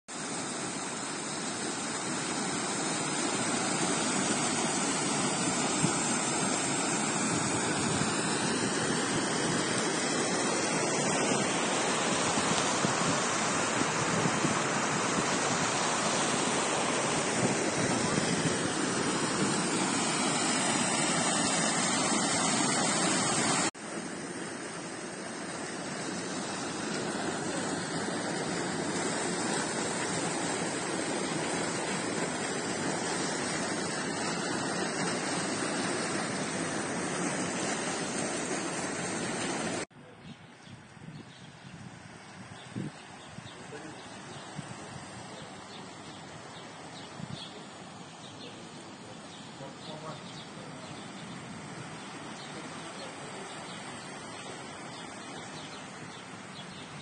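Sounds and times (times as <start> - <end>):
floodwater pouring into river: 0.1 - 39.9, 42.0 - 57.0
storm water gushing from drain: 0.1 - 39.9, 42.0 - 57.0.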